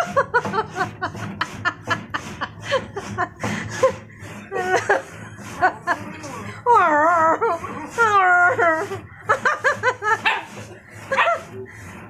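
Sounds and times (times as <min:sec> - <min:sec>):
person chuckling: 0:00.0 - 0:11.7.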